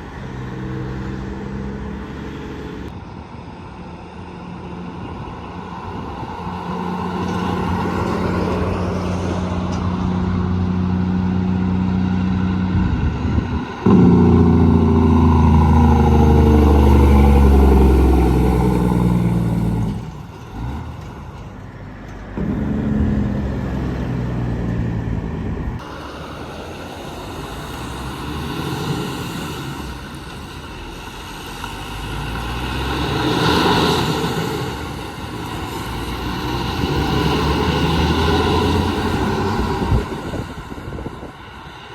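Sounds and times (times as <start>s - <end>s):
heavy trucks passing: 0.0s - 41.9s.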